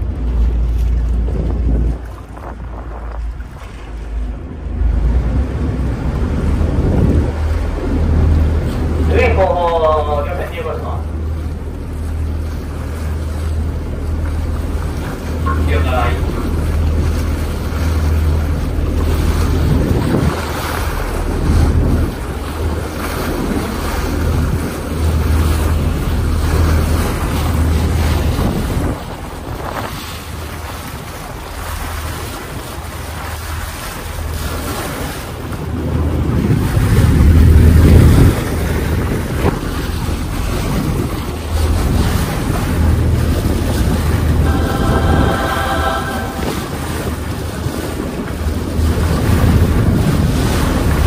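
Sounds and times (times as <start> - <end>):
low engine hum: 0.0 - 51.0
water and wind noise: 0.0 - 51.0.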